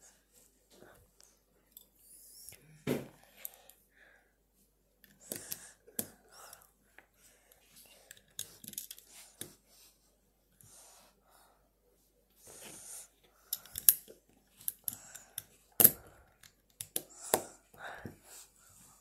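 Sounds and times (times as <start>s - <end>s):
soft hissy sounds: 0.0s - 19.0s.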